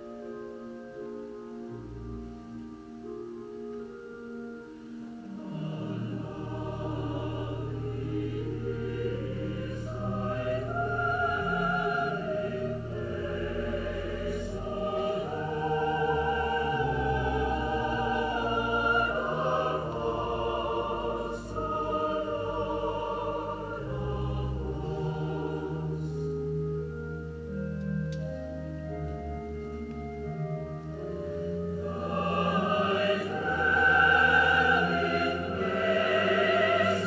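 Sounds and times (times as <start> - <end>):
choir singing slowly: 0.0 - 37.0.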